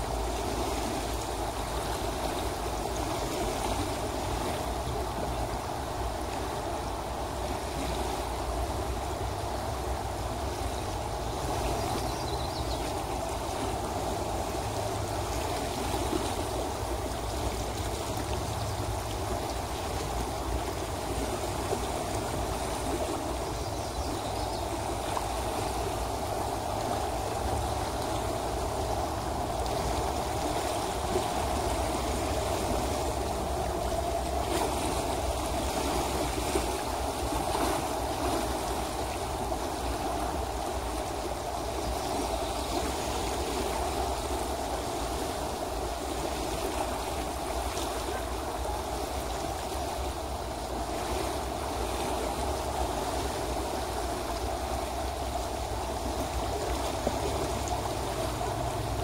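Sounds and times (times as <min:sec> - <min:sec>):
river rushing and babbling: 0:00.0 - 0:59.0.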